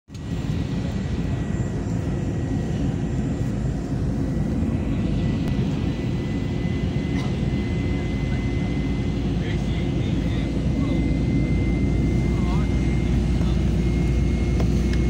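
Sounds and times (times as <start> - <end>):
airliner cabin rumbling hum: 0.1 - 15.0.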